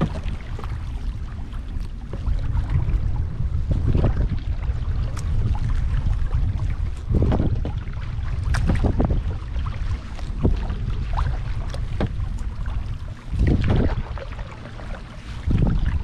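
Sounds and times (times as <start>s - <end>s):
paddle strokes splashing in water: 0.0s - 16.0s
wind rumble on microphone: 0.0s - 16.0s.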